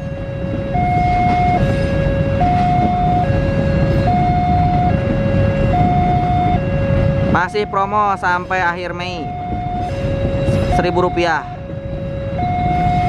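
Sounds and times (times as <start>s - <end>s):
level crossing two-tone alarm: 0.0s - 13.0s
train coaches rumbling: 0.0s - 13.0s.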